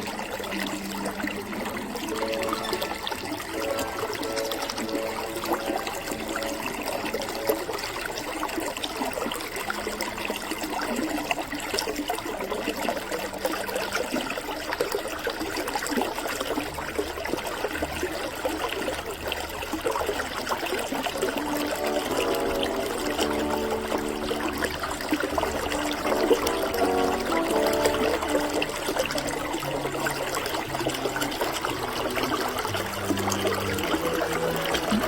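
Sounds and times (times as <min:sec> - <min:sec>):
creek flowing over stones: 0:00.0 - 0:35.0.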